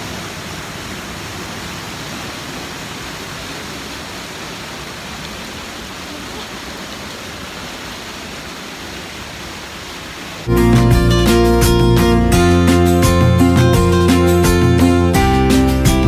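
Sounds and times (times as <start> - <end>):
stream water cascading: 0.0 - 16.0.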